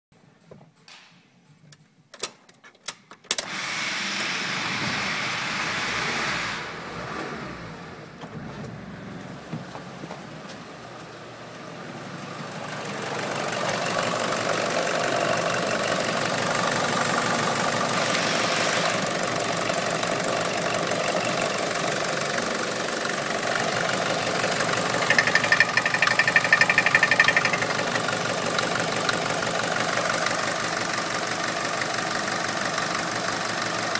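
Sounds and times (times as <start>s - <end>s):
diesel engine starting and idling: 3.4s - 33.9s.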